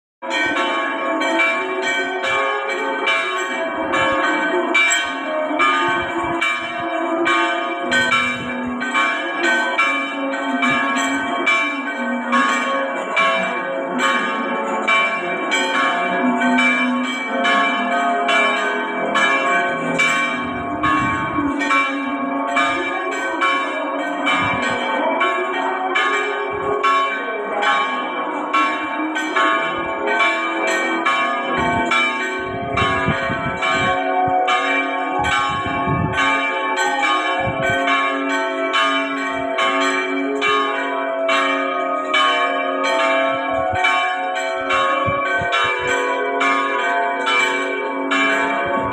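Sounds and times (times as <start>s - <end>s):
church bells ringing: 0.2s - 48.9s.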